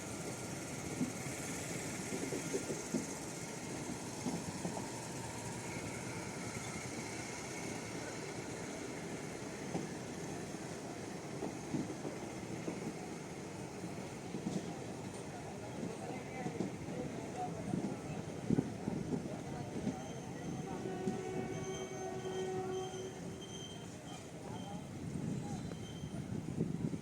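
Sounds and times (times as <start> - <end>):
passenger train running: 0.0 - 27.0.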